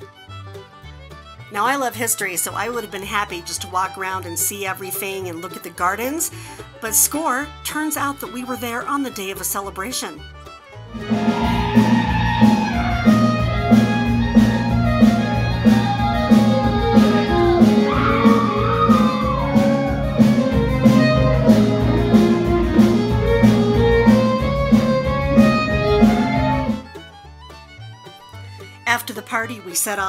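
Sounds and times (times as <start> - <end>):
button accordion: 0.0 - 18.1, 19.0 - 28.8
acoustic guitar: 0.0 - 30.0
fiddle: 0.0 - 30.0.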